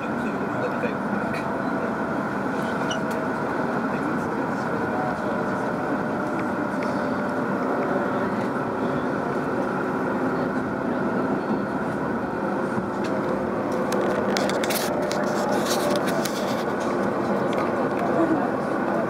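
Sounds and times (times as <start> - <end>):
train car rumble: 0.0 - 19.0.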